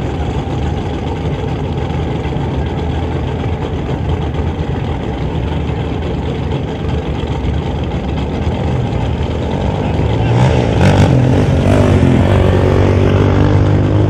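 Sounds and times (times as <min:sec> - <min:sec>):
race car engines idling: 0:00.0 - 0:14.0.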